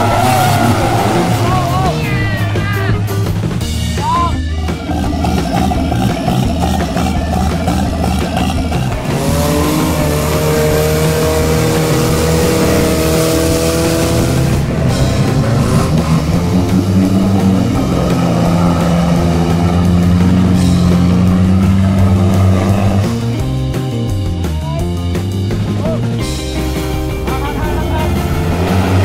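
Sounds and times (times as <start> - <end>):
engines revving: 0.0 - 29.0
rock music: 0.0 - 29.0.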